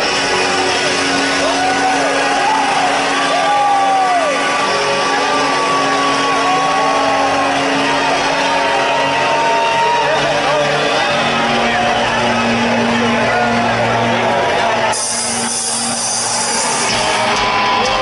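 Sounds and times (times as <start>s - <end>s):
crowd shouting and whooping: 0.0s - 18.0s
droning intro music: 0.0s - 18.0s.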